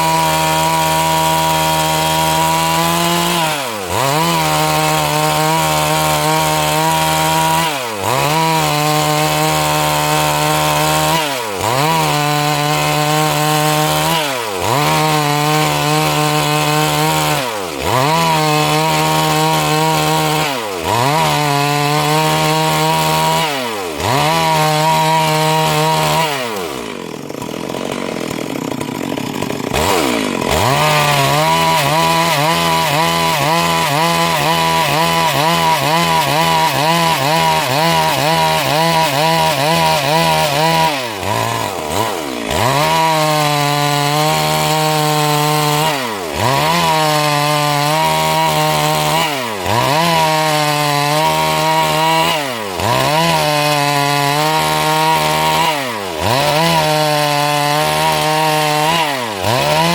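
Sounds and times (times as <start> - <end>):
chainsaw cutting a log: 0.0 - 59.9.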